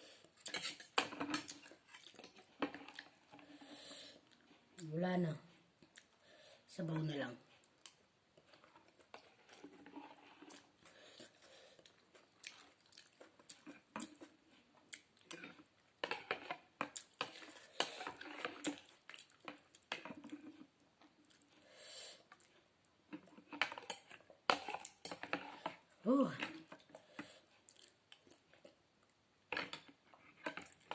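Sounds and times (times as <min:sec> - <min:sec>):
person chewing noodle soup: 0:00.1 - 0:04.8, 0:05.7 - 0:06.3, 0:07.5 - 0:30.9.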